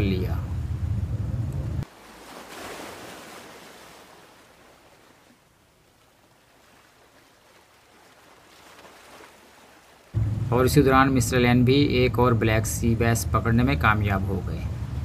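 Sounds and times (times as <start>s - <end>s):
sea and wind noise: 0.0s - 15.0s.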